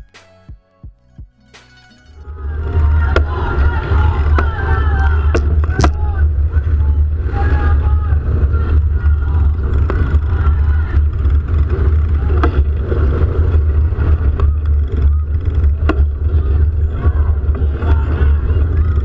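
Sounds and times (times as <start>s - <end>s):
traffic engines rumbling: 1.7s - 19.0s
faint crowd shouting: 2.2s - 12.8s, 14.0s - 19.0s.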